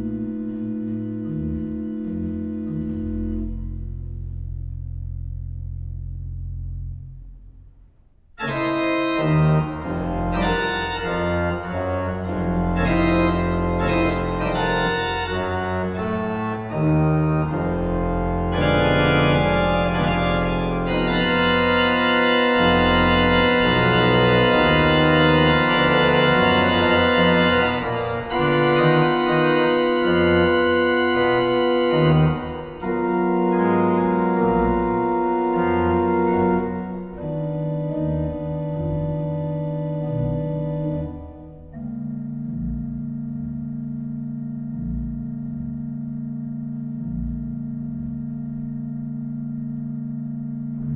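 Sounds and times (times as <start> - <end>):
pipe organ playing chords: 0.0 - 7.3, 8.4 - 50.9.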